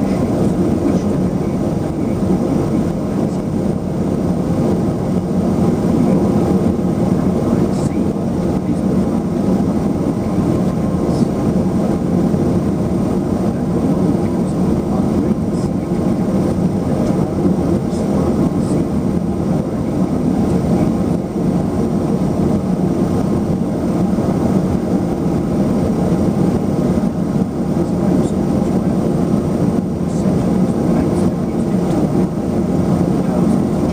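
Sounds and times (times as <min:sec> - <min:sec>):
turboprop engines droning in cabin: 0:00.0 - 0:33.9.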